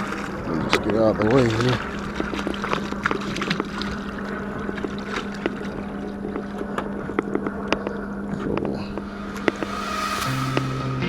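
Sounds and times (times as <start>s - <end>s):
boat low hum: 0.0s - 11.0s.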